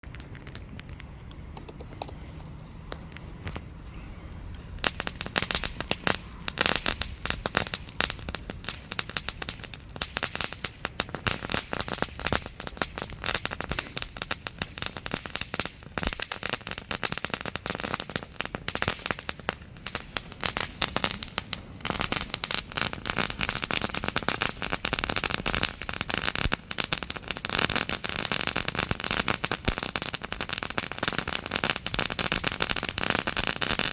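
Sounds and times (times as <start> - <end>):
firework crackling pops: 0.0 - 2.3, 4.6 - 33.9.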